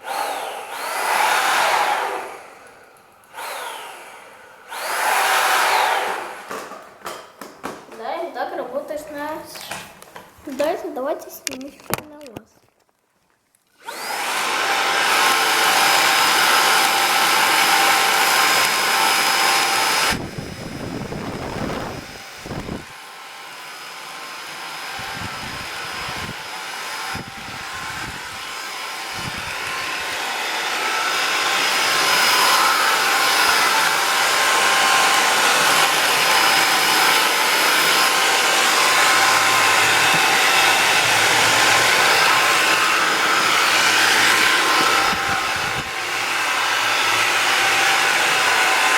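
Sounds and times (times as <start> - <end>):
vacuum cleaner whine: 0.0 - 7.5, 13.8 - 48.9.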